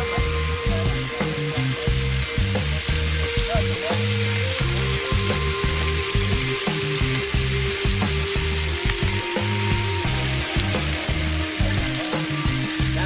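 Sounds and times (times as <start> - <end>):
background music with bass line: 0.0 - 13.0
meat sizzling in a wok: 0.0 - 13.0.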